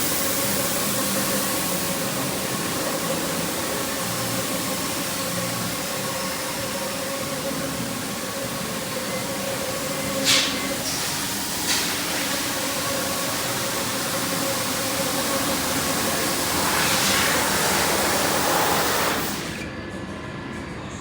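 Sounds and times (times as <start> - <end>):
steady loud hiss: 0.0 - 19.6.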